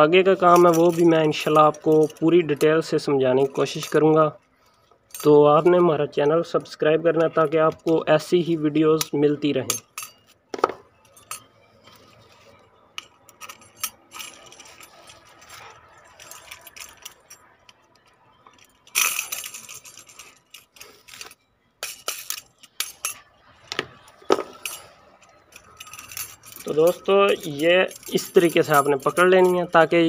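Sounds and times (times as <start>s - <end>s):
metal spokes jangling: 0.2s - 30.0s.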